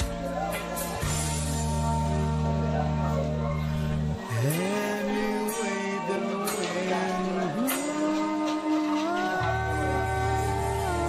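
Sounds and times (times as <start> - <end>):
bass line: 0.0 - 11.0
synth chords: 0.0 - 11.0.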